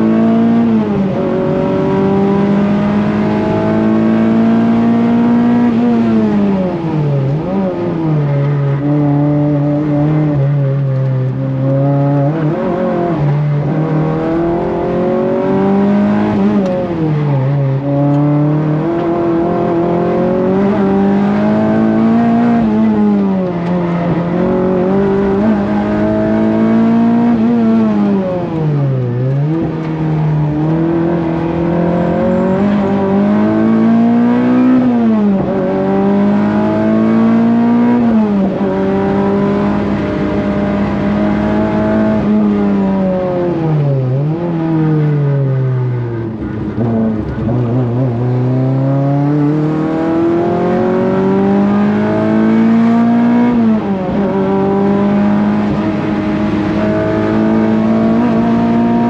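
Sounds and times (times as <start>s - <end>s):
car engine racing: 0.0s - 59.0s.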